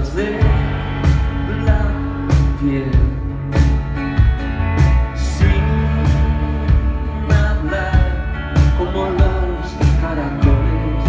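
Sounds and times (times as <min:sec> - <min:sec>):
live band playing pop-rock: 0:00.0 - 0:11.0.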